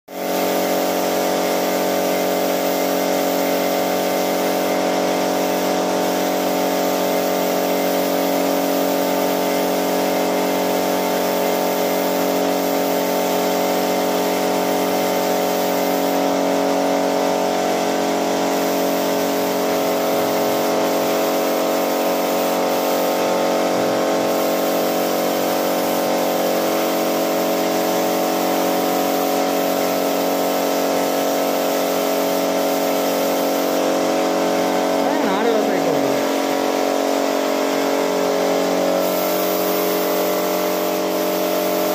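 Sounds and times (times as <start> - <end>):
air compressor running: 0.1 - 41.9
spray gun hissing: 0.1 - 41.9.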